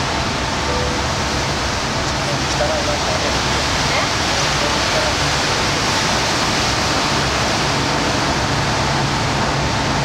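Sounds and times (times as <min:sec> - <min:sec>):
boat engine hum: 0:00.0 - 0:10.0
water rushing: 0:00.0 - 0:10.0
wind: 0:00.0 - 0:10.0.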